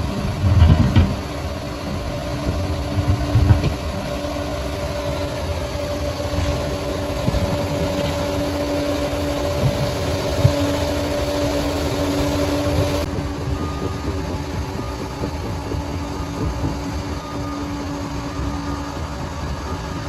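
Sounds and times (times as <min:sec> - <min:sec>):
bulldozer engine rumbling: 0:00.0 - 0:20.0.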